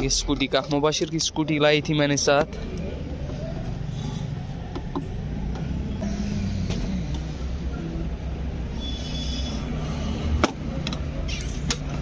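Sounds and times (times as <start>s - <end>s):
engines rumbling: 0.0s - 12.0s.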